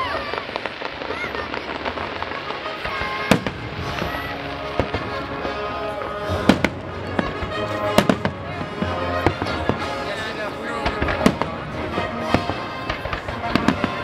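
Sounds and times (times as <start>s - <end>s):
fireworks bangs: 0.0s - 14.0s
steady background din: 0.0s - 14.0s.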